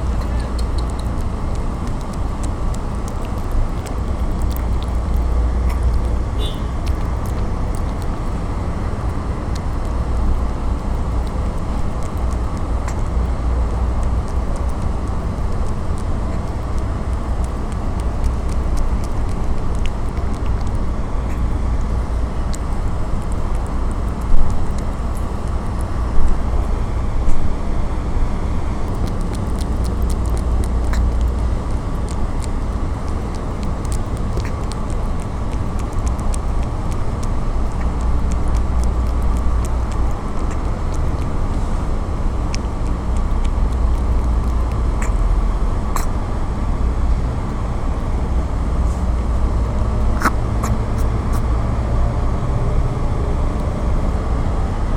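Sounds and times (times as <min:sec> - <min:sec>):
street traffic rumble: 0:00.0 - 0:54.9.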